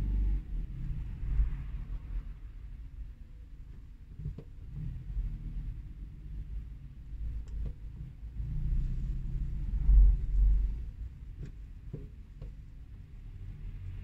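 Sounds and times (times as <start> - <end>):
traffic rumble from inside car: 0.0 - 14.0.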